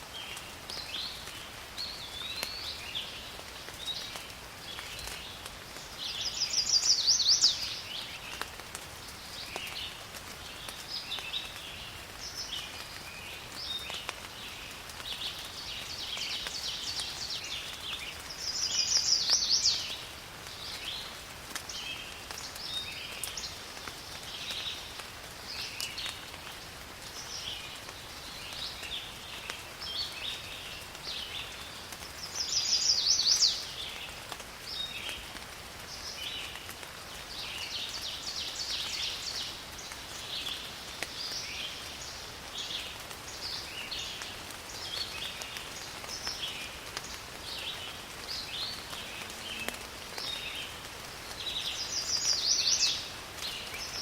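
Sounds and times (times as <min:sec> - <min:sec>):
faint hiss of rain: 0:00.0 - 0:54.0
loud bird song of rapid notes: 0:00.2 - 0:08.5, 0:09.3 - 0:21.1, 0:27.2 - 0:35.3, 0:35.9 - 0:54.0.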